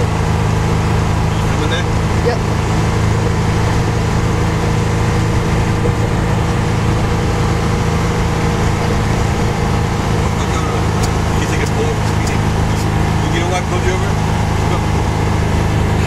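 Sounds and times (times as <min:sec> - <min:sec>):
diesel truck engine drone: 0:00.0 - 0:16.0
road and wind noise: 0:00.0 - 0:16.0.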